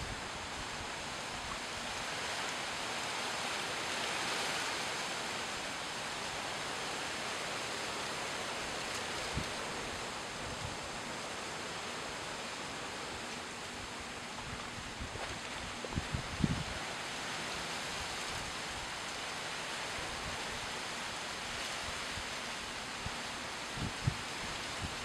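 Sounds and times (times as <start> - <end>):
rushing outdoor background noise: 0.0 - 25.0.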